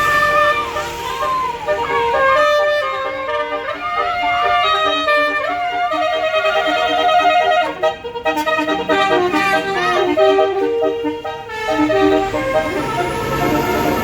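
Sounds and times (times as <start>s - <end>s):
musical bus horn playing a tune: 0.0s - 14.0s.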